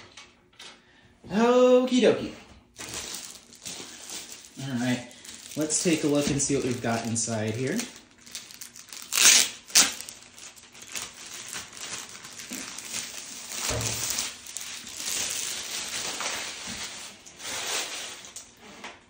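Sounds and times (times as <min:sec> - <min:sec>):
plastic sleeve crinkling: 0:02.8 - 0:18.6
sharp plastic crackles: 0:02.8 - 0:18.6.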